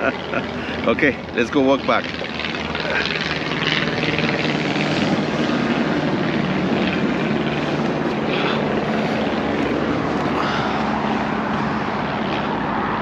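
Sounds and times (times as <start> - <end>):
engine drone: 0.0 - 13.0
outdoor noise: 0.0 - 13.0.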